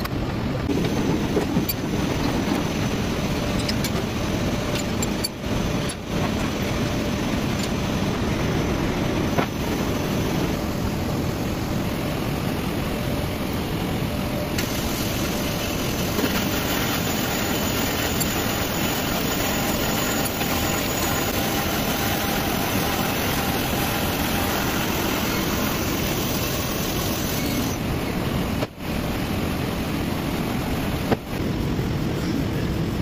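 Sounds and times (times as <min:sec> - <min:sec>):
metal sawing machine drone: 0:00.5 - 0:28.0.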